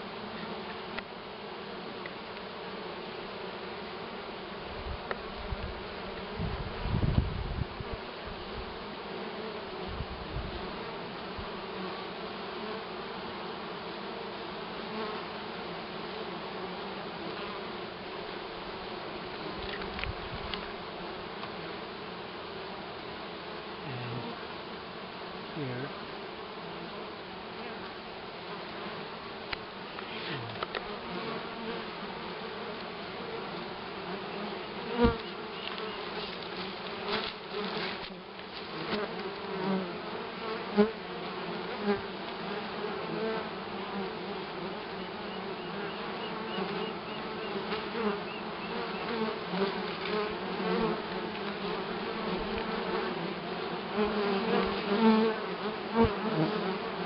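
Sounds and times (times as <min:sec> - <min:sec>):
bee flying past: 0:00.0 - 0:57.0
bees buzzing: 0:00.0 - 0:57.0.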